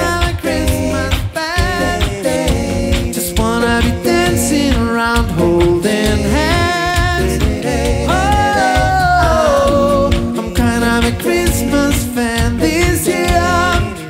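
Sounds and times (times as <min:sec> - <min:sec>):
a cappella group singing: 0:00.0 - 0:14.0
lead voice holding long notes: 0:00.0 - 0:14.0
vocal bass: 0:00.0 - 0:14.0
vocal percussion: 0:00.0 - 0:14.0.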